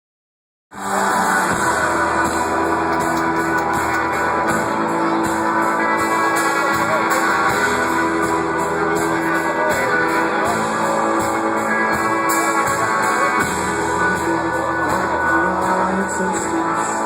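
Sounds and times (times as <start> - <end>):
live rock band playing: 0.8 - 17.0
strummed guitars: 0.8 - 17.0.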